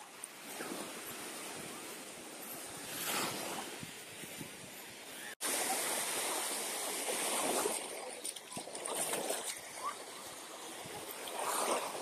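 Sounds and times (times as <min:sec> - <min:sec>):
surf breaking on shore: 0:00.0 - 0:12.0.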